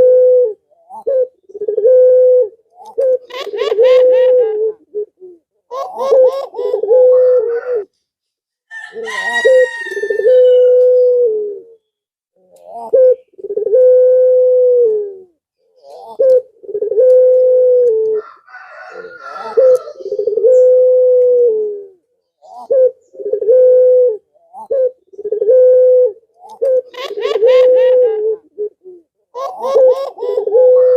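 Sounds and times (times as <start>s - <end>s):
dove cooing: 0.0s - 7.9s, 8.7s - 11.8s, 12.4s - 30.9s.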